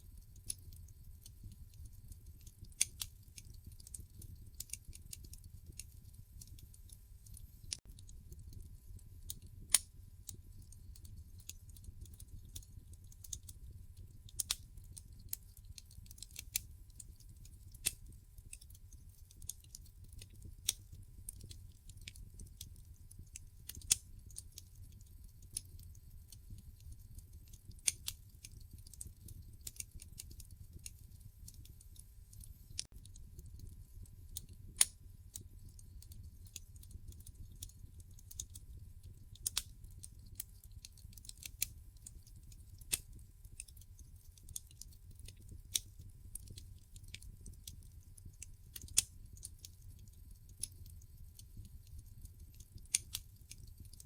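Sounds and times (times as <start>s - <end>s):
wood fire crackling and popping: 0.0s - 54.0s
low fire rumble: 0.1s - 54.0s.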